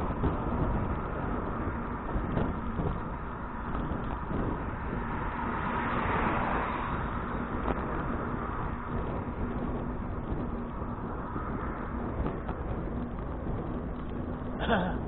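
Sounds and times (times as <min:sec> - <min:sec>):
bicycle rattles: 0:00.0 - 0:15.0
bicycle tyre rumble: 0:00.0 - 0:15.0
wind rushing over microphone: 0:00.0 - 0:15.0.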